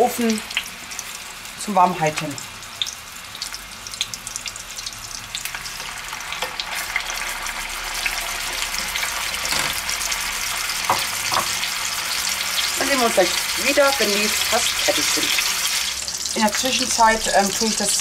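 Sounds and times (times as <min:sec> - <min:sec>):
meat sizzling in frying pan: 0:00.0 - 0:18.0.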